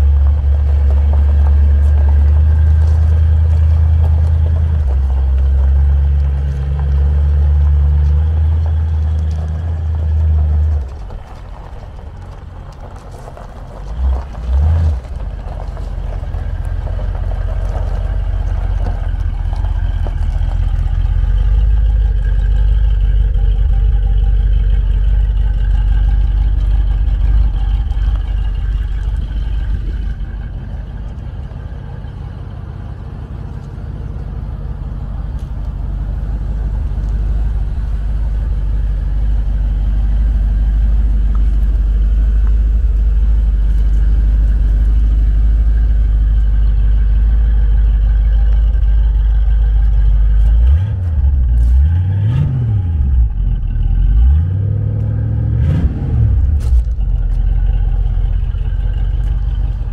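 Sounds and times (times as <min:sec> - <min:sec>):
pickup engine idling: 0:00.0 - 0:59.9.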